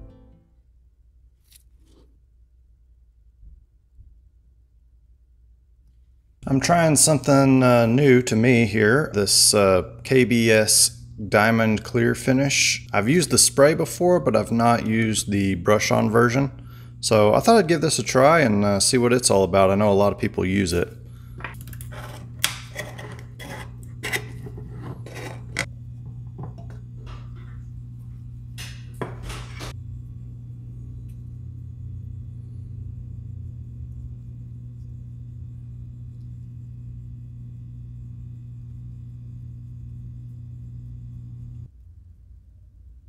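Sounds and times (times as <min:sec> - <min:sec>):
steady low hum: 0:02.3 - 0:43.0.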